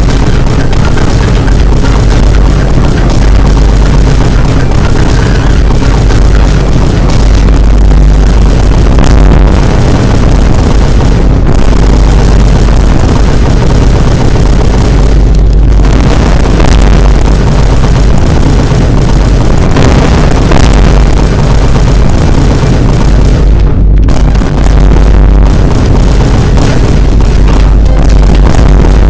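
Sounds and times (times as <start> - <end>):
distorted deep booms melody: 0.0 - 29.0.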